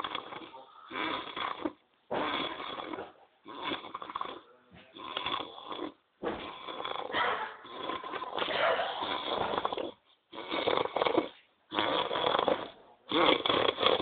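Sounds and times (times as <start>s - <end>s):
man snoring: 0.0s - 14.0s.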